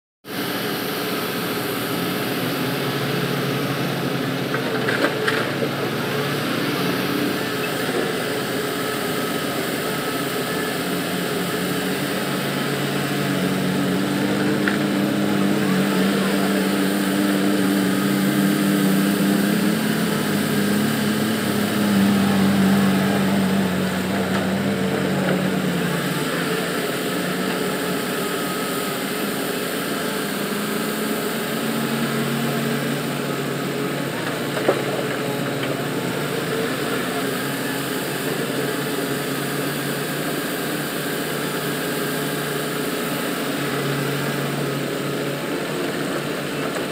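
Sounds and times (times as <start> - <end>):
excavator diesel engine running: 0.3 - 46.9.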